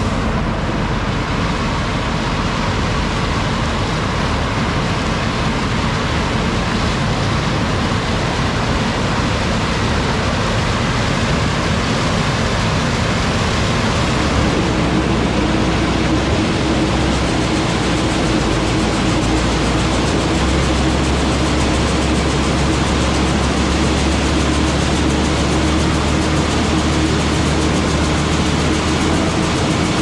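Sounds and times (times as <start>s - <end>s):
harvest machinery running: 0.0s - 30.0s.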